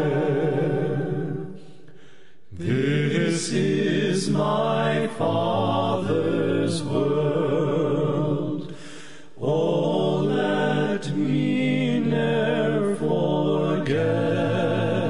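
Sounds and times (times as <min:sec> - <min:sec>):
congregation singing a hymn: 0:00.0 - 0:01.8, 0:02.5 - 0:15.0.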